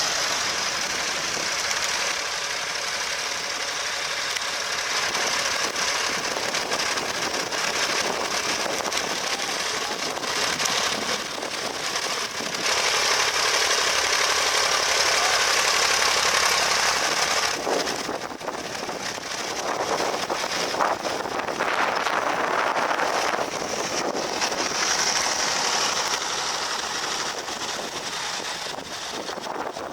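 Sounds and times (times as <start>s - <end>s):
tractor engine pulsing: 0.0s - 29.9s.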